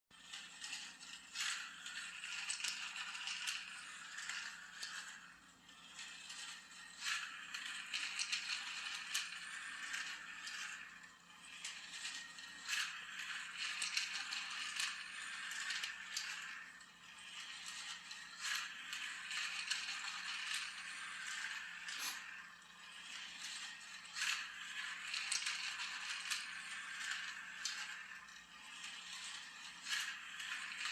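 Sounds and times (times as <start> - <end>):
toy race car whirring and rattling: 0.1 - 30.9.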